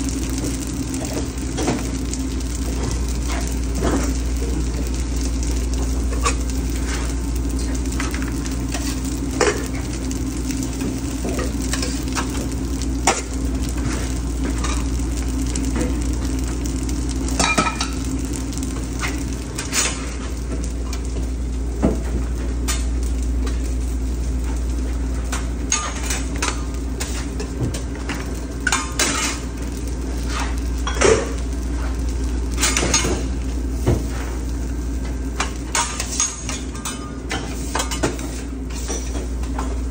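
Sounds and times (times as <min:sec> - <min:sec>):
food sizzling on griddle: 0:00.0 - 0:39.9
steady low hum: 0:00.0 - 0:39.9.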